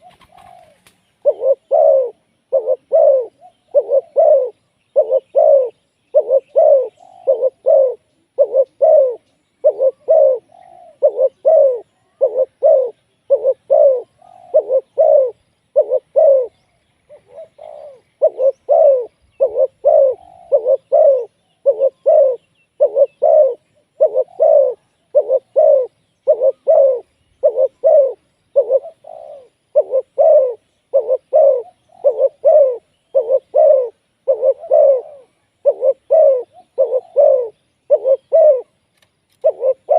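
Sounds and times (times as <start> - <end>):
dove cooing: 0.0 - 38.8, 39.4 - 39.9.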